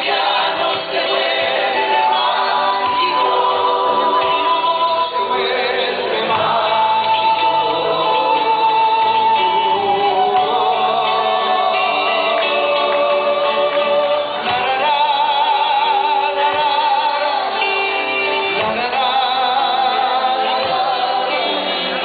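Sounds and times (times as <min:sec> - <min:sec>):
men singing in harmony: 0:00.0 - 0:22.0
strummed acoustic guitars: 0:00.0 - 0:22.0.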